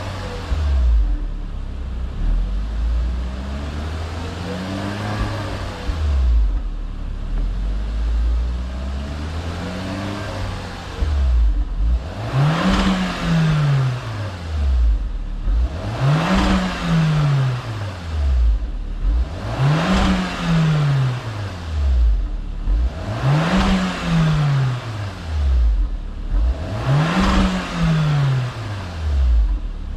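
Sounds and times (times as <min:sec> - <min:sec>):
car engine revving: 0:00.0 - 0:29.9.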